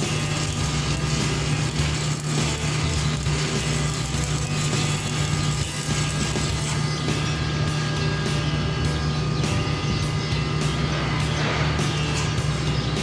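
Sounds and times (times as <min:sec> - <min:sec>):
engine drone: 0:00.0 - 0:13.0
welding arc crackling: 0:00.0 - 0:13.0.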